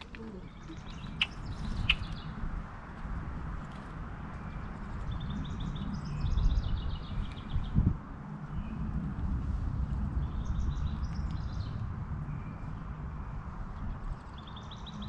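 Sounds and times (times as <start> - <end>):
songbirds chirping: 0.0 - 15.0
steady low rumble: 0.0 - 15.0.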